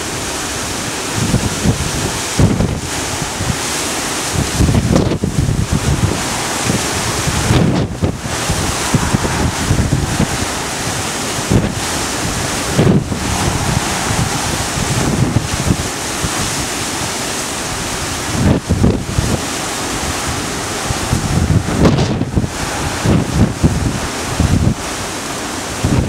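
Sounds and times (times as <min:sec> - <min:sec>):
low rumbling wind gusts: 0:00.0 - 0:26.0
strong wind buffeting microphone: 0:00.0 - 0:26.0.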